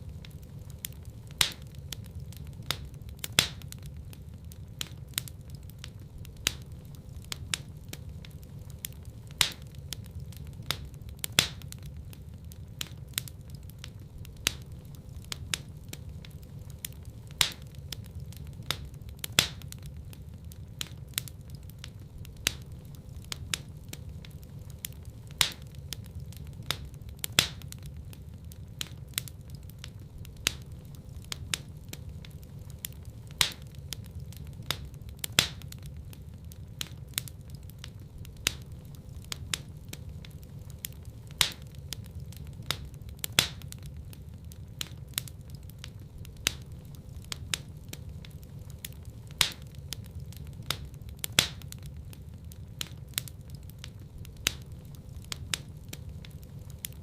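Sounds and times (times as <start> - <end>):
fire crackling in a fireplace: 0.0 - 57.0.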